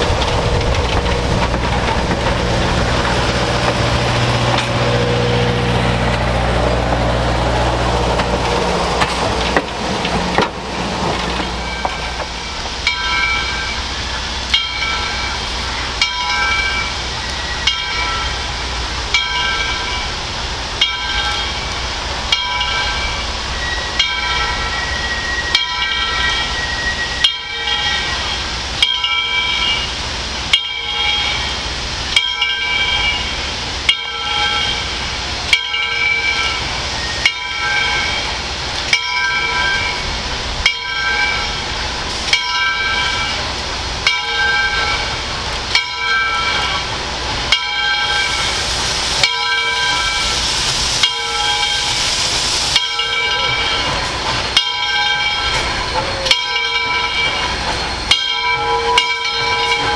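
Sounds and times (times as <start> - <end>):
locomotive bell ringing: 0.0 - 59.9
steam locomotive hissing and running: 0.0 - 59.9.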